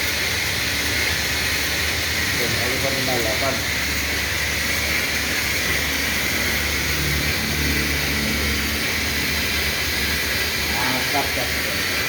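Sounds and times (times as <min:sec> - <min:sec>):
printing press running: 0:00.0 - 0:12.0.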